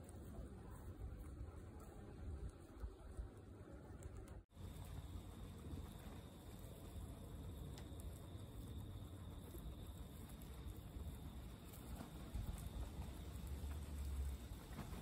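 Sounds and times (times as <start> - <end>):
guinea pigs chewing: 0.0 - 15.0.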